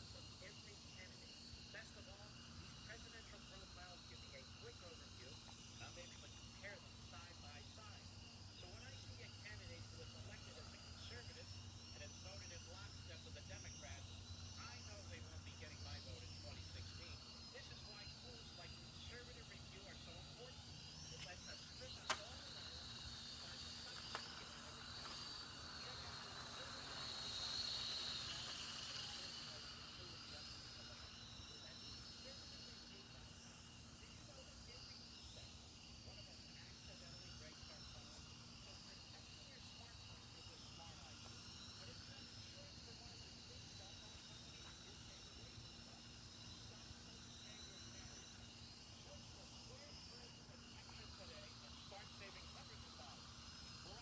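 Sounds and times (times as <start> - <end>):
insects chirring: 0.0 - 54.0
low hiss: 0.0 - 54.0
toy drone rotors whining: 0.0 - 54.0.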